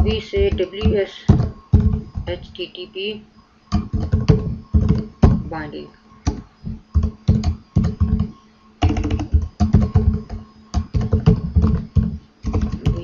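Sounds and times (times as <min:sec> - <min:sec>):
keyboard typing: 0:00.0 - 0:02.6, 0:03.7 - 0:05.6, 0:06.2 - 0:13.0.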